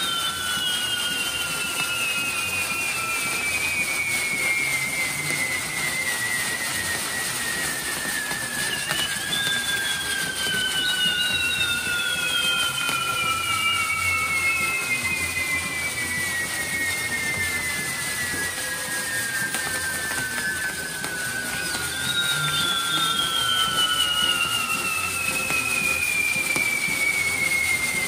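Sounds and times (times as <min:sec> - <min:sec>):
falling firework whistles: 0:00.0 - 0:28.0
hissing spark fountains: 0:00.0 - 0:28.0.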